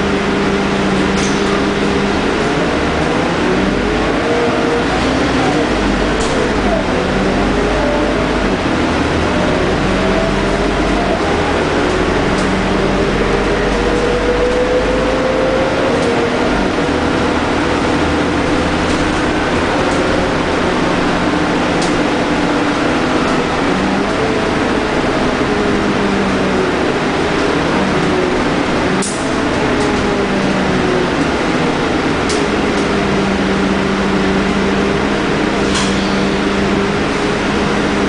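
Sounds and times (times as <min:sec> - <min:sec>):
bus diesel engine running: 0:00.0 - 0:38.0
drivetrain whine: 0:00.0 - 0:38.0
road noise: 0:00.0 - 0:38.0.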